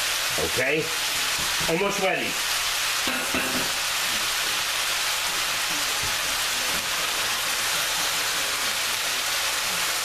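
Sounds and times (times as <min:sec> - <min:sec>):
vegetables sizzling in saucepans: 0:00.0 - 0:10.0.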